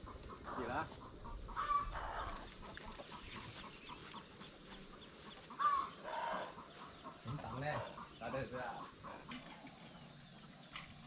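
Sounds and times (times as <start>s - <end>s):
chickens clucking: 0.0s - 10.9s
insect drone: 0.0s - 11.0s.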